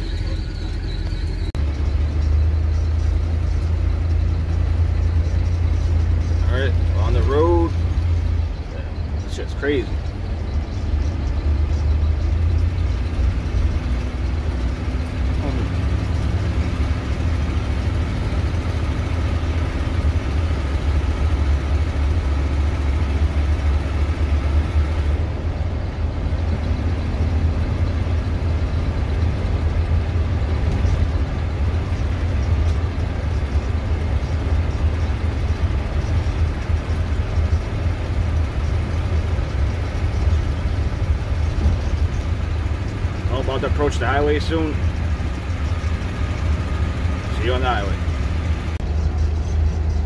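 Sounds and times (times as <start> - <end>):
motorhome engine drone: 0.0 - 50.0
road noise: 0.0 - 50.0.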